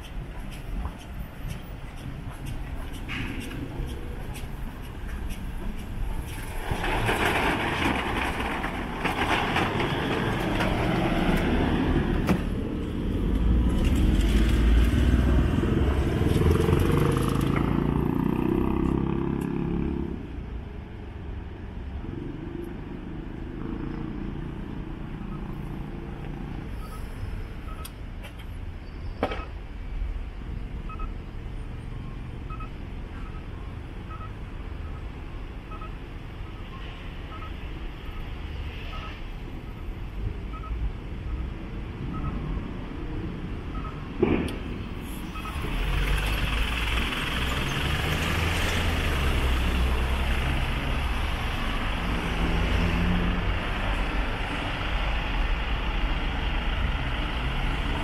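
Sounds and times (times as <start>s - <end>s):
city street traffic: 0.0s - 58.0s
vehicle engine and road noise: 0.0s - 58.0s.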